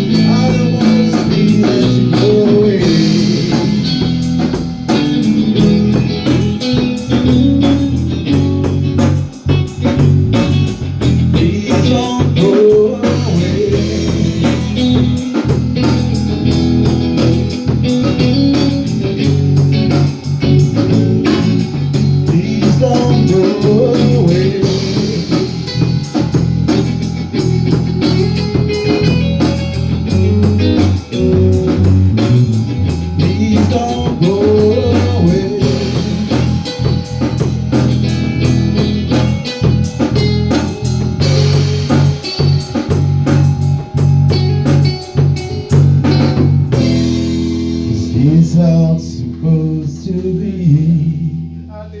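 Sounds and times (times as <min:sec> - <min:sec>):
drum strikes: 0:00.0 - 0:47.9
rock band playing: 0:00.0 - 0:51.6
bending guitar notes: 0:00.0 - 0:52.0.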